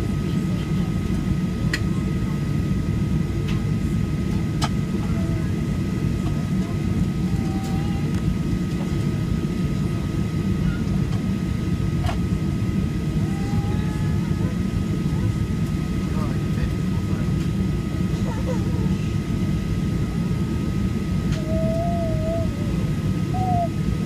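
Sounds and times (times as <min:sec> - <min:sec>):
jet engine and airflow rumble: 0:00.0 - 0:24.0.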